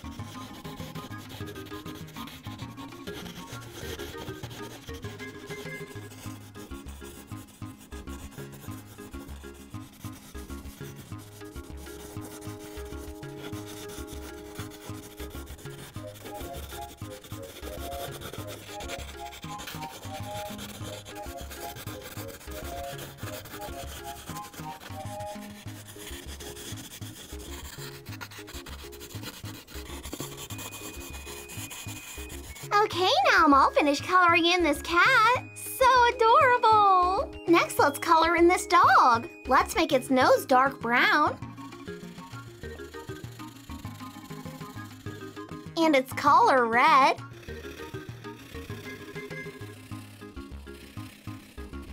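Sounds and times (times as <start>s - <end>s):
pencil scratching on paper: 0.0s - 51.9s
soft background music with beat: 0.0s - 51.9s.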